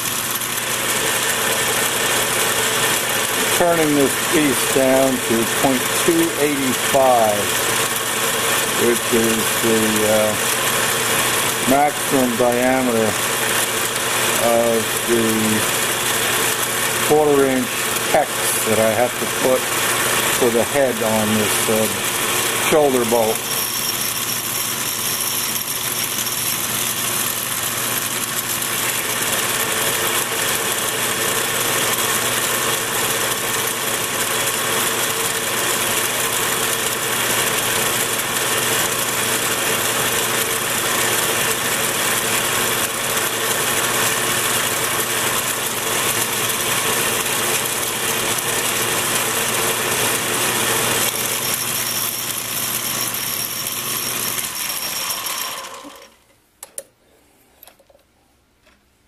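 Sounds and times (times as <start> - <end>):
metal lathe whining: 0.0 - 56.2.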